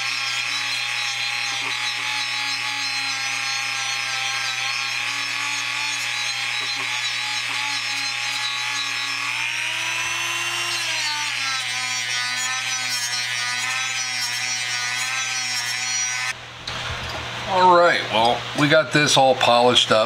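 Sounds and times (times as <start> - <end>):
rotary tool motor whine: 0.0 - 16.4.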